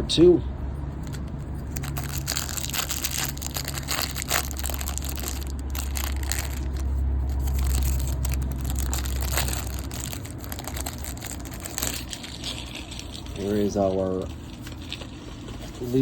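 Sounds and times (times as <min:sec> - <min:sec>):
steady low hum: 0:00.0 - 0:16.0
plastic wrapper tearing and crinkling: 0:01.0 - 0:15.9.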